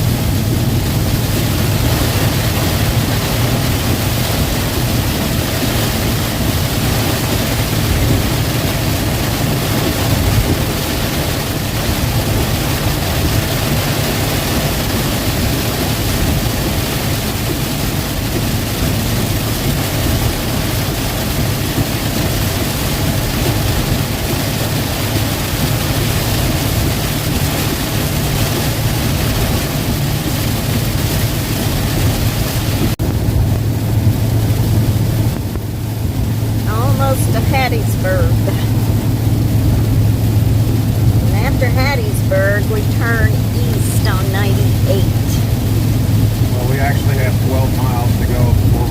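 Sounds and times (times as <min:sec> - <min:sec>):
heavy rain and road spray: 0:00.0 - 0:48.9
vehicle engine drone: 0:00.0 - 0:48.9.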